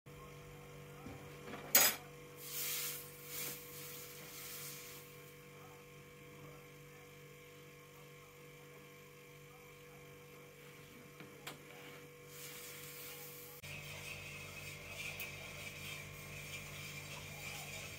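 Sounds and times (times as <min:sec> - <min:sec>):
low electrical hum: 0:00.1 - 0:17.9.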